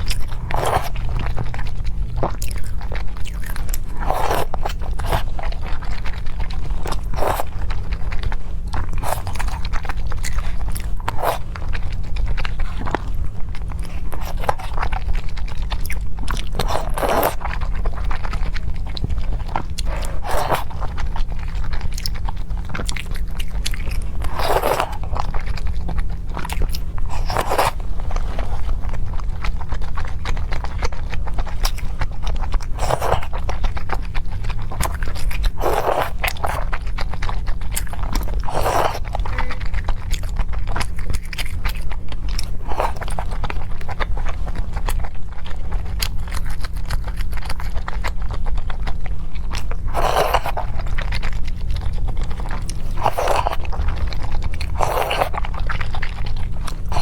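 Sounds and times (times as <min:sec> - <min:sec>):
person chewing food: 0:00.0 - 0:57.0
steady low hum: 0:00.0 - 0:57.0.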